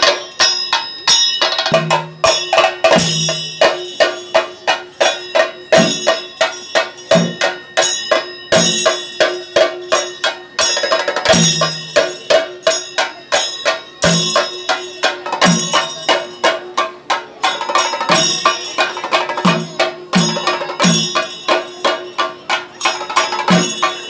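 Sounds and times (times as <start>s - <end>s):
drum band beating fast rhythm: 0.0s - 24.0s
steady ringing tone: 0.0s - 24.0s.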